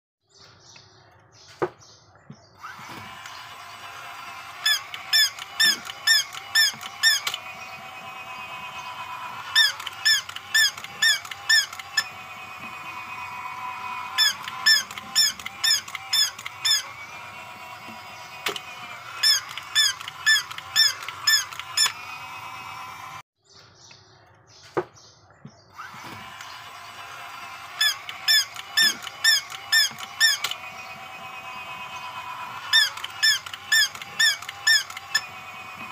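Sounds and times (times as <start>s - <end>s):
toy motor whirring: 2.5s - 23.2s, 25.7s - 35.9s
squeaky electronic calls: 2.6s - 22.7s, 25.8s - 35.9s
toy click: 2.6s - 23.1s, 25.8s - 35.9s.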